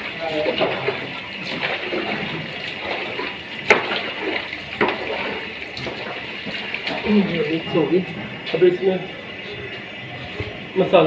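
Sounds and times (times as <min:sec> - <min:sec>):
wet squelching sloshing: 0:00.0 - 0:10.8.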